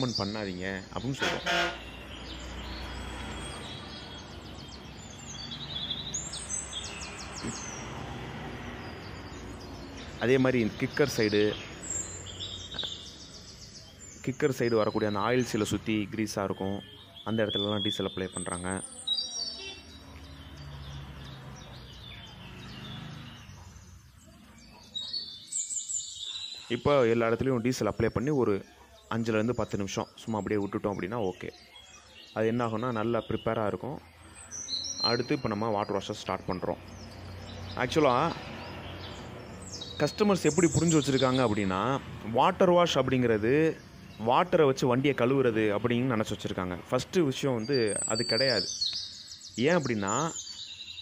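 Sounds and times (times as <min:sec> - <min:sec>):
outdoor background noise: 0:00.0 - 0:51.0
small birds chirping: 0:00.0 - 0:51.0.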